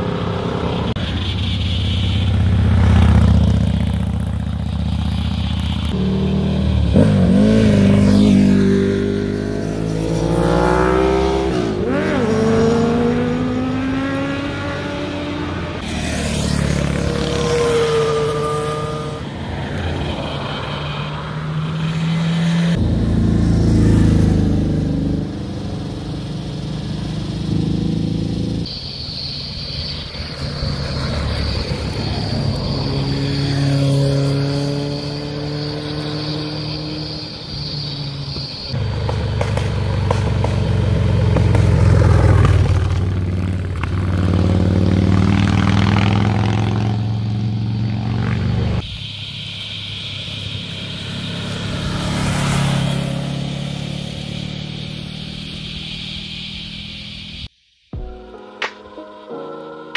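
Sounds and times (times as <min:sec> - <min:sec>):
motorcycle engines revving past: 0:00.0 - 0:28.8, 0:30.0 - 0:48.8, 0:50.0 - 0:57.5
car passing: 0:00.0 - 0:57.5.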